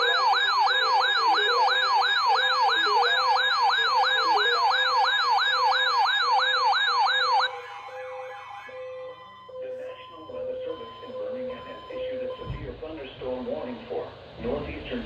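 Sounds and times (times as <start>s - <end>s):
electronic siren sweeping downward: 0.0s - 12.4s.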